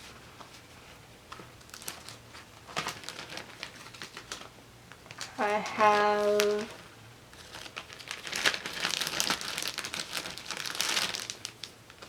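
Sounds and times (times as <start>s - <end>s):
paper rustling and crinkling: 0.0s - 5.2s, 5.8s - 12.0s.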